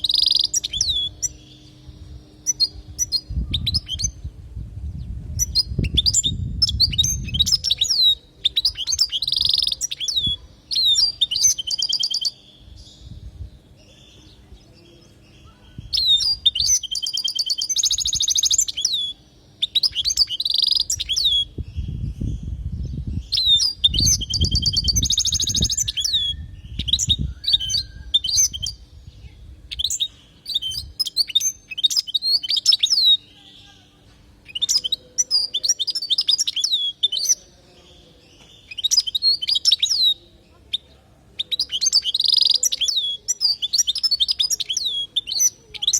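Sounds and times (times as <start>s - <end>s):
goldfinch singing: 0.0s - 4.2s, 5.4s - 22.4s, 23.2s - 45.9s.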